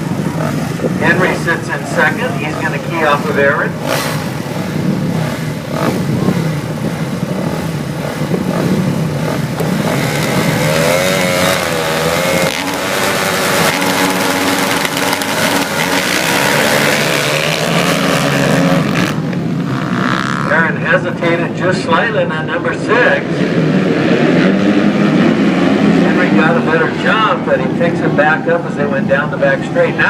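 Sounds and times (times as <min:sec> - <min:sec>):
motorcycles revving and accelerating: 0:00.0 - 0:30.0.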